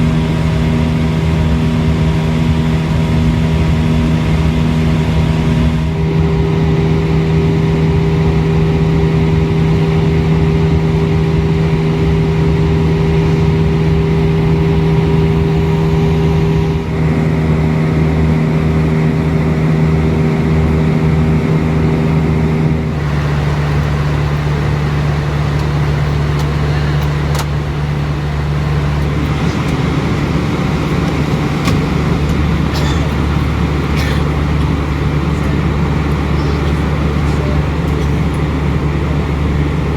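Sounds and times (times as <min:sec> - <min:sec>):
aircraft cabin drone: 0:00.0 - 0:39.9
low hum: 0:00.0 - 0:39.9.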